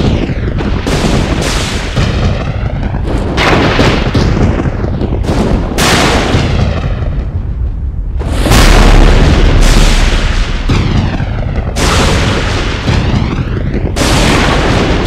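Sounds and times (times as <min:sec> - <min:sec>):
loud thunder cracks: 0:00.0 - 0:15.0
low thunder rumble: 0:00.0 - 0:15.0.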